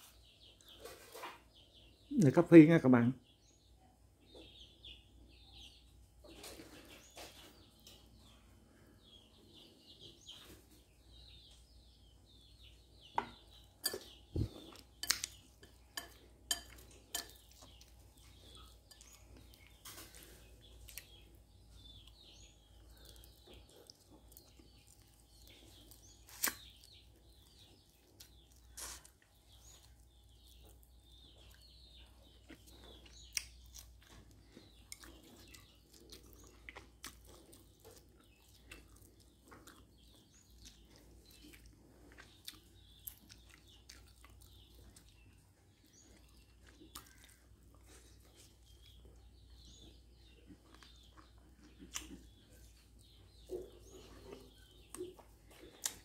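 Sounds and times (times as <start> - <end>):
quiet chewing: 6.2 - 56.0.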